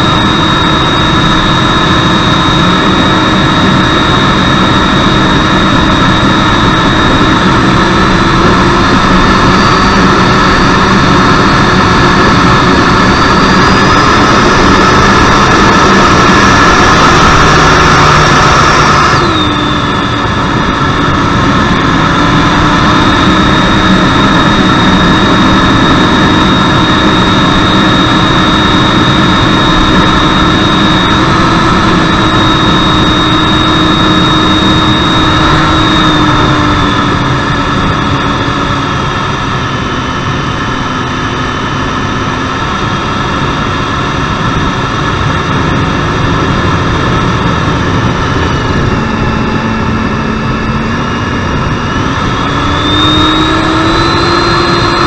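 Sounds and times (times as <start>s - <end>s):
electric ducted fan whine: 0.0s - 55.0s.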